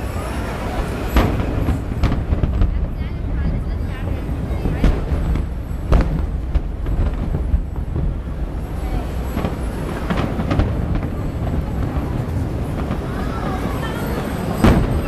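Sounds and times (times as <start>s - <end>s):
crowd talking: 0.0s - 15.0s
distant fireworks bursts: 0.0s - 15.0s
fireworks bangs: 0.0s - 15.0s.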